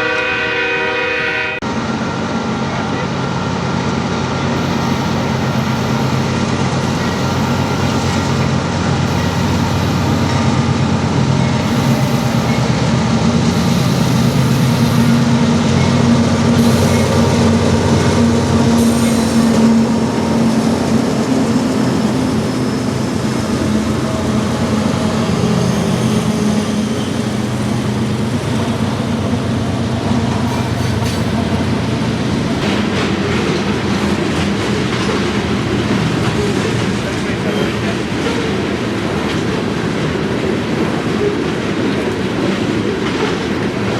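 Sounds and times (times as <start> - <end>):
diesel locomotive engine drone: 0.0 - 43.9
train wheels rumbling on rail: 1.6 - 43.9.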